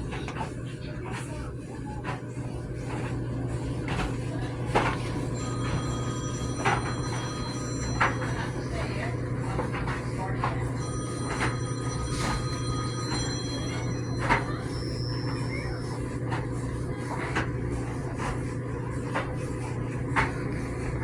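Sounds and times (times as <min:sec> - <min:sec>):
dryer hum: 0:00.0 - 0:21.0.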